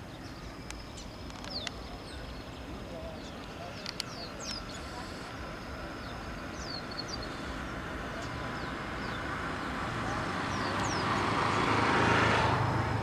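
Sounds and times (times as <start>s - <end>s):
small birds chirping: 0.0s - 11.8s
low rumble and hiss: 0.0s - 13.0s.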